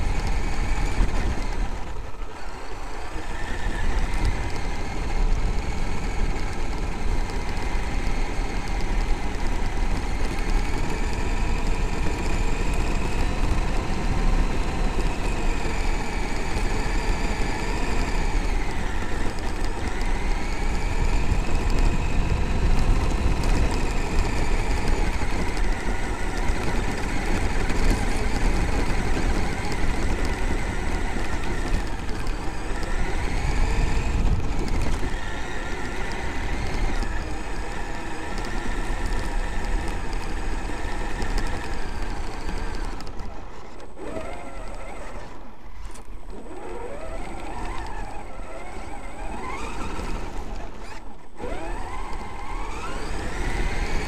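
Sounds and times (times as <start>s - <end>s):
electric motor whine: 0.0s - 54.0s
gravel crunching under tyres: 0.0s - 54.0s.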